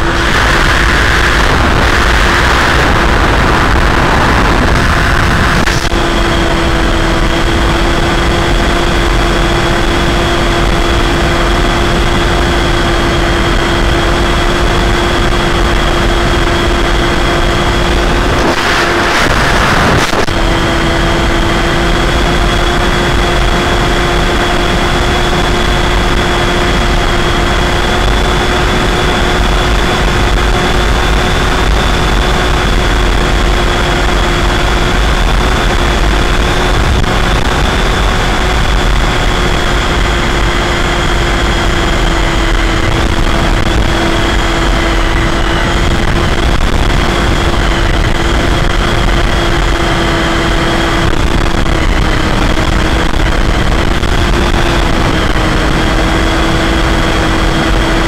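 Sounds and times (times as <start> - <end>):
electric motor whine: 0.0 - 58.0
rushing airflow: 0.0 - 58.0
wind buffeting on microphone: 0.0 - 58.0.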